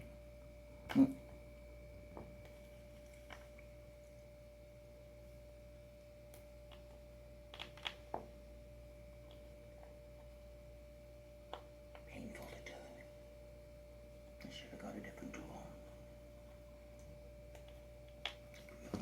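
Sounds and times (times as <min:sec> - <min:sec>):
faint high-pitched hum: 0:00.0 - 0:19.0.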